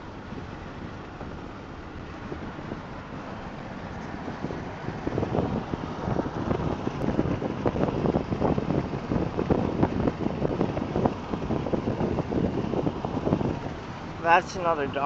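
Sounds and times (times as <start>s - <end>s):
road and wind noise in car: 0.0s - 15.0s
wind buffeting on microphone: 0.0s - 15.0s.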